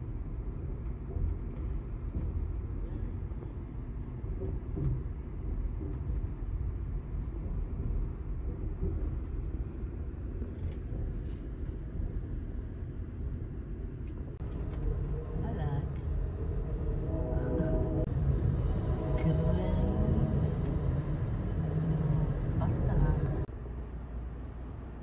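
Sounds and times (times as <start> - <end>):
train rumbling on track: 0.0 - 25.0.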